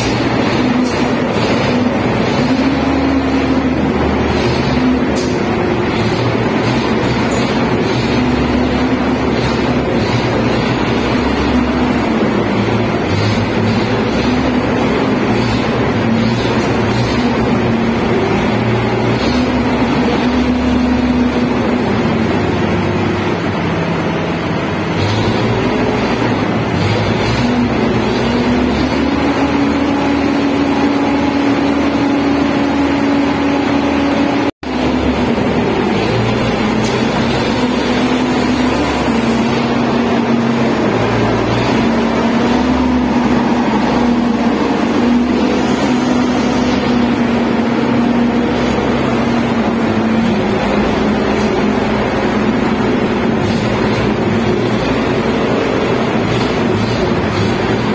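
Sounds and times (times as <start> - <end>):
concrete spraying machine droning: 0.0 - 57.9.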